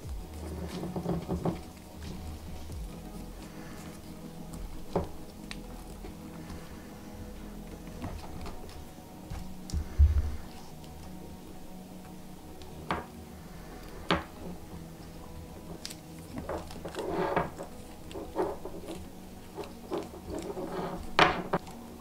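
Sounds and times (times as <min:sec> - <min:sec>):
wires rustling: 0:00.0 - 0:22.0.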